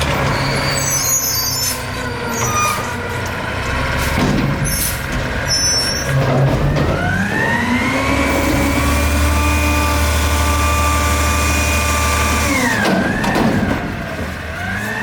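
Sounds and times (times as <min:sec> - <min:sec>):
diesel truck engine revving: 0:02.8 - 0:15.0.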